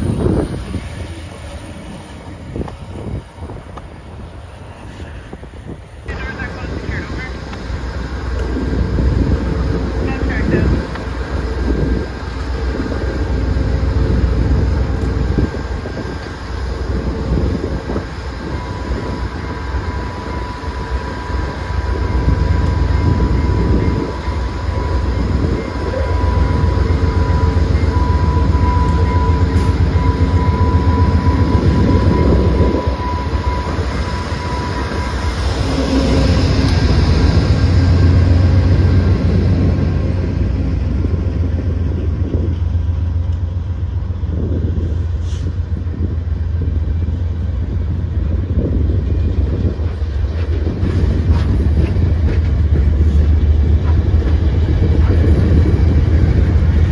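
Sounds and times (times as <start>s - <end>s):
diesel locomotive rumble: 0.0s - 56.9s.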